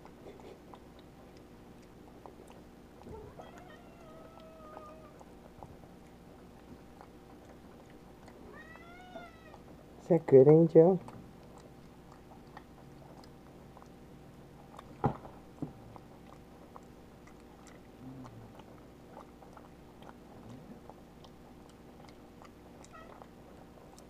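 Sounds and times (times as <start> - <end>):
monkey chewing with wet mouth clicks: 0.0 - 24.0.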